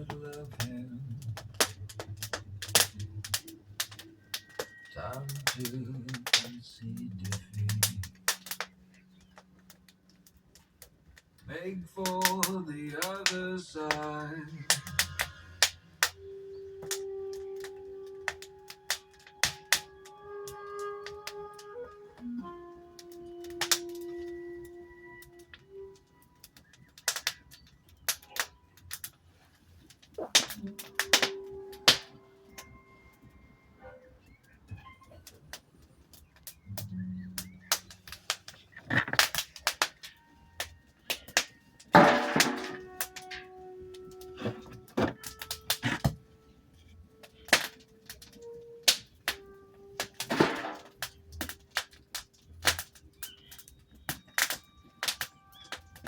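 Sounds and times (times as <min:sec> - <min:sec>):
wood fire crackling and popping: 0:00.0 - 0:33.6, 0:34.2 - 0:56.0.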